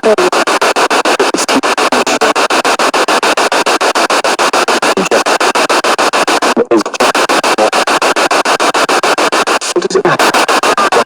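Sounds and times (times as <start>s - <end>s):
chopping radio static: 0.0s - 11.0s.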